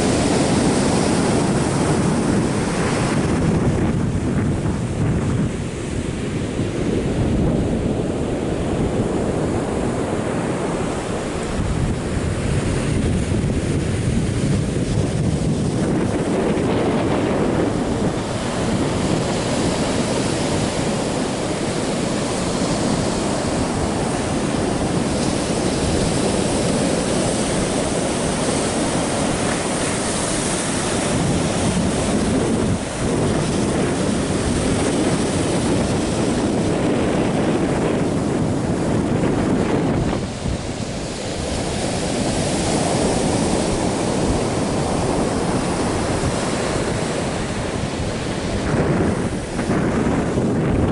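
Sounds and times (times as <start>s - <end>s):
surf breaking on beach: 0.0s - 50.9s
wind buffeting microphone: 0.0s - 50.9s.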